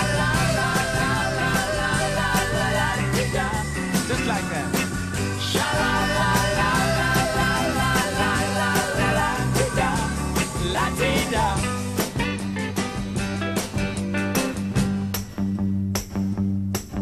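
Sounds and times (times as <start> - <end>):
rock song with vocals: 0.0 - 15.0.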